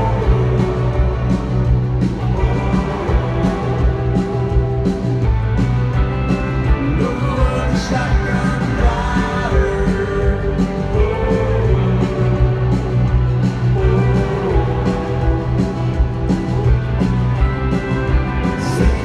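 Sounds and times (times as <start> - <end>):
person singing: 0.0 - 5.2, 6.6 - 16.1, 18.3 - 19.0
country band playing: 0.0 - 19.0.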